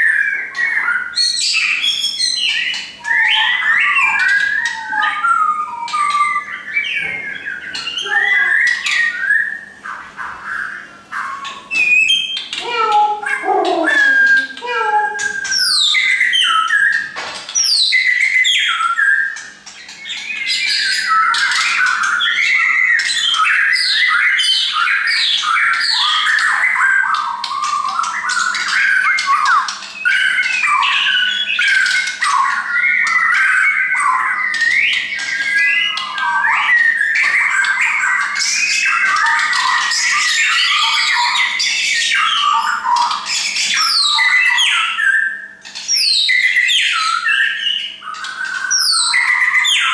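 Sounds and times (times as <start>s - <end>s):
bird singing whistles and chatters: 0.0s - 49.9s.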